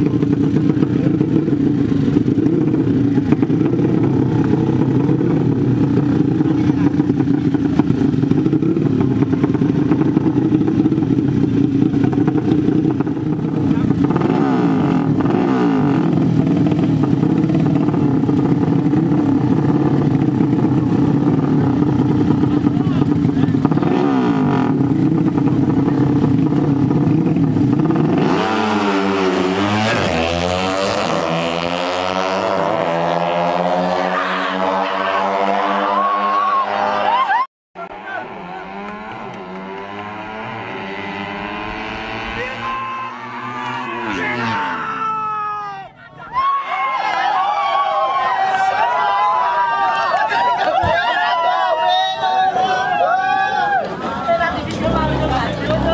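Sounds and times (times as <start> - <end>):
motorcycle engines chattering: 0.0 - 55.9.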